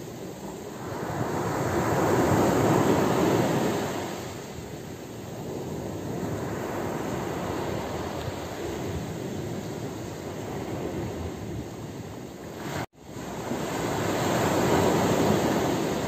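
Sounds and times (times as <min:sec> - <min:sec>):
surf washing on pebble beach: 0:00.0 - 0:16.0.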